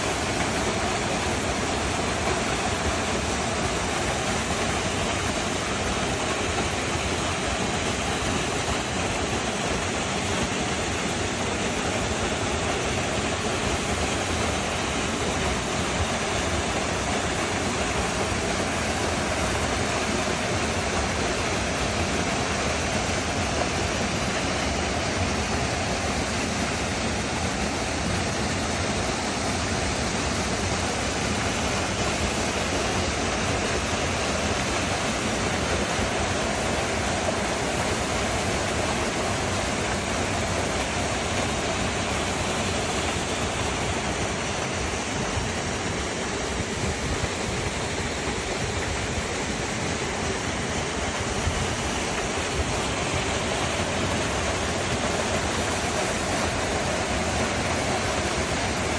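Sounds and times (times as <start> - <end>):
waterfall pouring over rock: 0.0 - 58.9.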